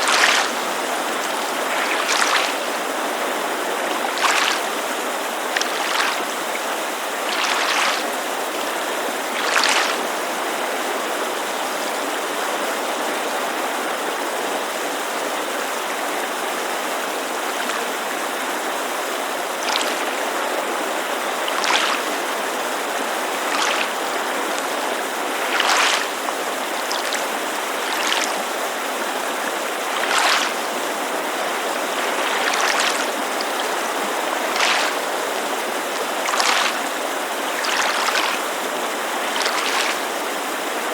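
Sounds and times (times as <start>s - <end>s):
lake waves lapping on shore: 0.0s - 40.9s
mountain creek rushing: 0.0s - 40.9s.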